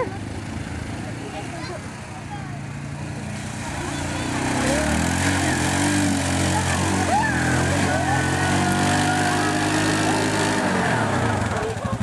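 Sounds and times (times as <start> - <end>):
quad bike engine under load: 0.0 - 12.0.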